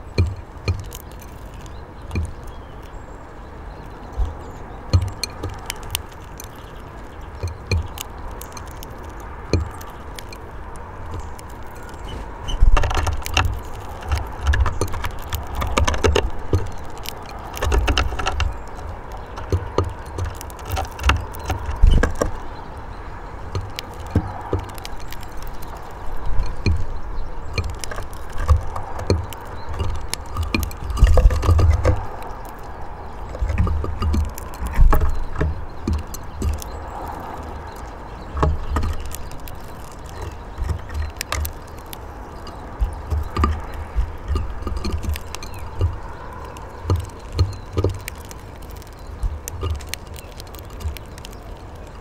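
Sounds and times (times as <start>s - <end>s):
bird pecking seed: 0.0s - 52.0s.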